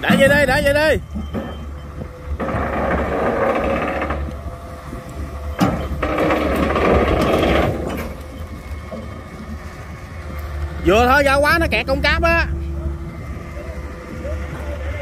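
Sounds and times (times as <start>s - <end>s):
crane winch rattling: 0.0s - 15.0s
diesel engine running: 0.0s - 15.0s.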